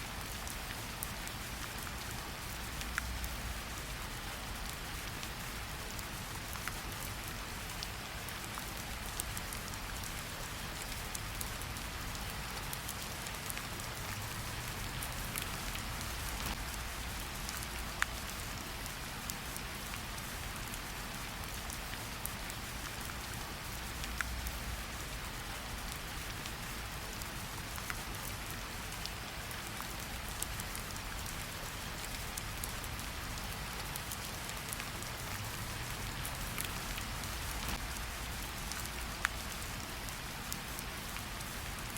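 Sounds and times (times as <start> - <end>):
rain hiss: 0.0 - 41.9.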